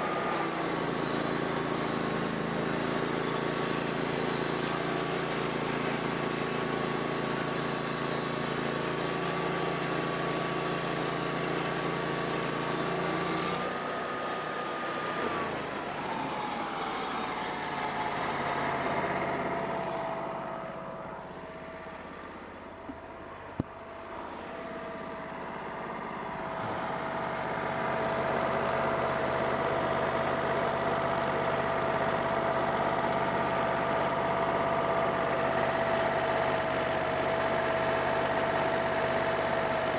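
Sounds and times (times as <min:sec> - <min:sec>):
band sawmill engine whine: 0:00.0 - 0:39.9.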